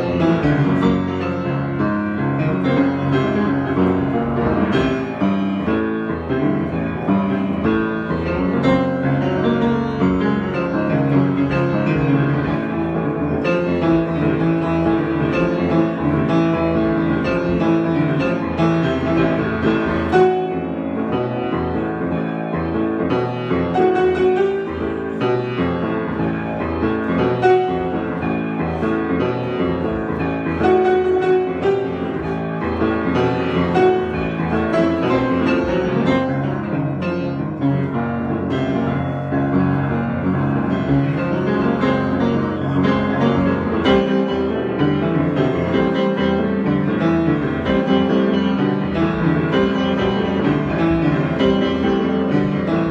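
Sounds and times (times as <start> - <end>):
piano improvisation: 0.0 - 52.9.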